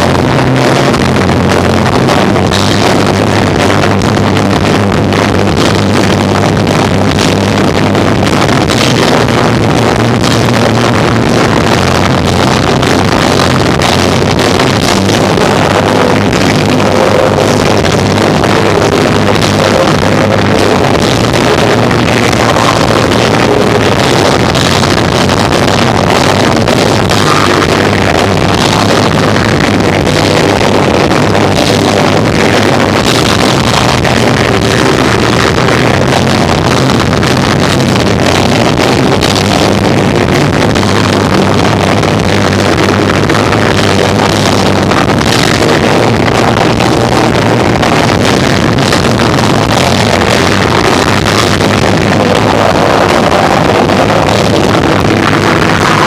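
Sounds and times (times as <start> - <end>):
distorted live rock band: 0.0 - 56.0.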